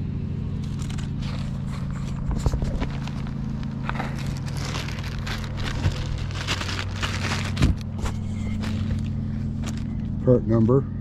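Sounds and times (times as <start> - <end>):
steady low motor hum: 0.0 - 11.0
hands rustling packaging: 0.6 - 10.2.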